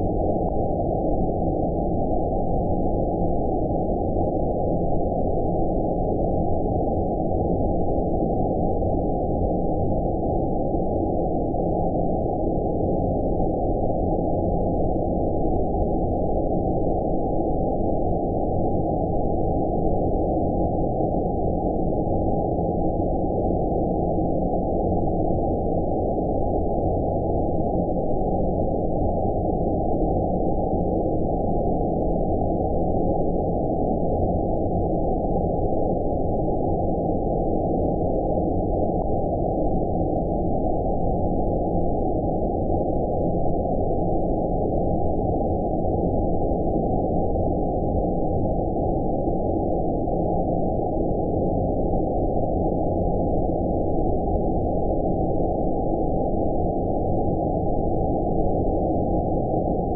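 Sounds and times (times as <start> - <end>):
steady low rumbling noise: 0.0 - 59.9.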